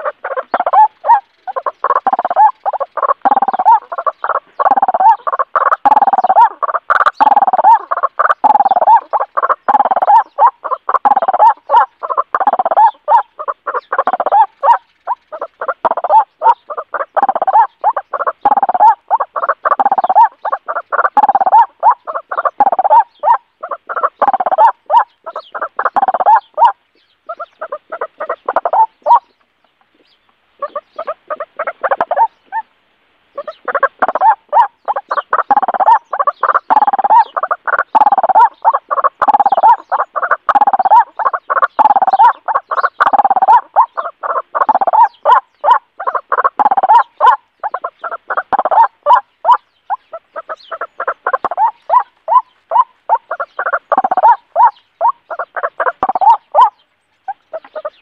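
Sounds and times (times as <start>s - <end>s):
bird calling harsh repeated notes: 0.0s - 29.3s, 30.6s - 32.7s, 33.3s - 58.0s.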